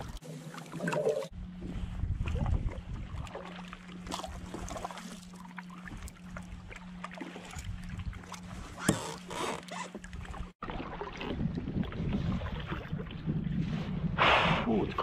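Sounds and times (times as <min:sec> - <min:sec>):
paddle dipping and dripping in water: 0:00.0 - 0:13.5.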